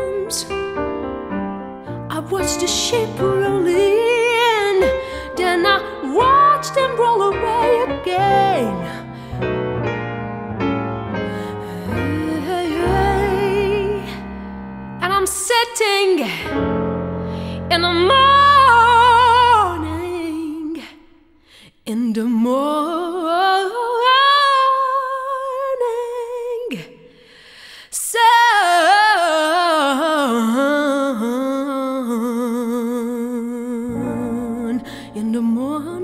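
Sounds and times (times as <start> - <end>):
wordless sung melody with vibrato: 0.0 - 21.2, 21.8 - 36.0.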